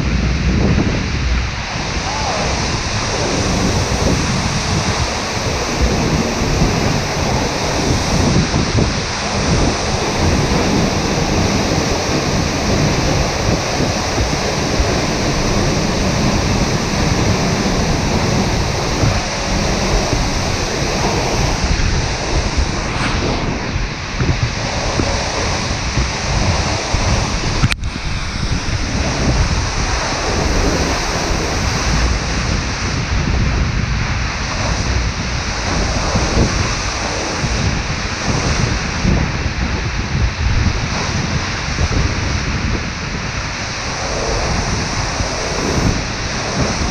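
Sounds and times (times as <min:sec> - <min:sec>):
wind buffeting microphone: 0:00.0 - 0:46.9
waterfall roaring: 0:00.7 - 0:46.9.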